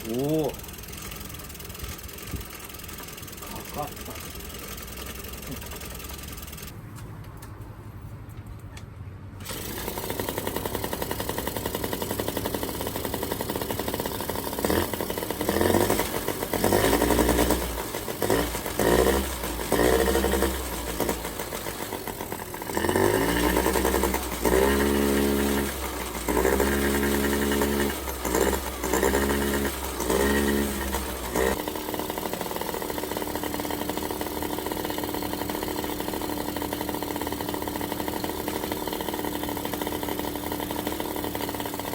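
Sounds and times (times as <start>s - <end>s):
scooter engine idling and revving: 0.0s - 7.8s, 9.3s - 41.9s.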